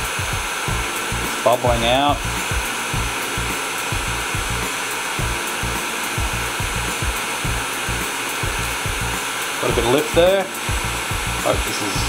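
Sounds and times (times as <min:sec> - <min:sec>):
heat gun blowing air: 0:00.0 - 0:12.0.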